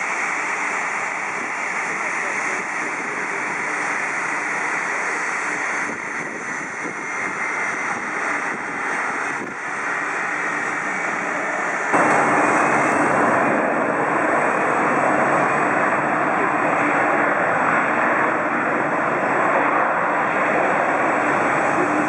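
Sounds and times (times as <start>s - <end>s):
jet engine rushing: 0.0s - 22.0s.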